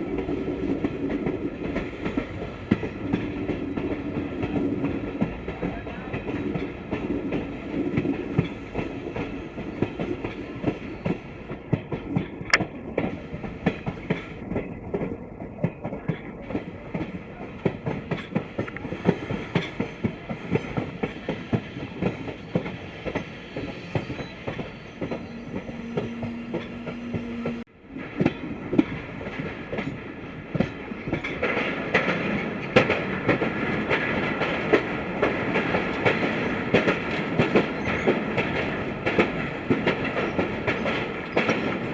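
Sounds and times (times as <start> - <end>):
train rumbling on track: 0.0 - 41.9
wheels clattering over rail joints: 0.0 - 41.9.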